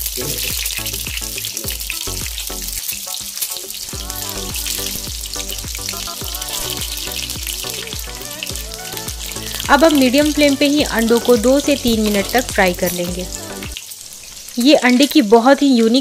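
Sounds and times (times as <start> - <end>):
background music with a beat: 0.0 - 13.8
eggs sizzling in hot oil: 0.0 - 16.0.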